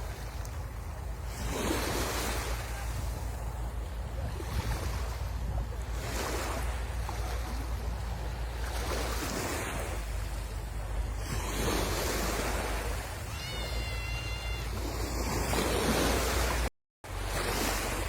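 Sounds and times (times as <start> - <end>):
waves breaking on shore: 0.0 - 18.0
wind rumbling on microphone: 0.0 - 18.0.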